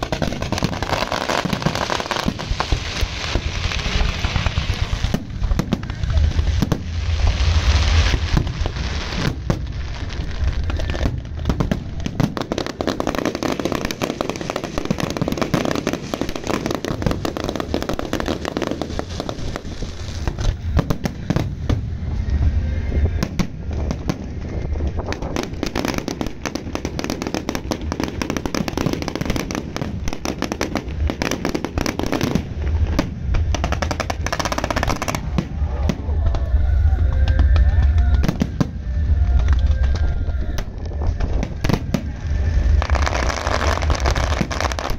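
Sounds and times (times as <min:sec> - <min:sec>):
deep fireworks booms: 0:00.0 - 0:44.9
fireworks bangs and crackling: 0:00.0 - 0:44.9.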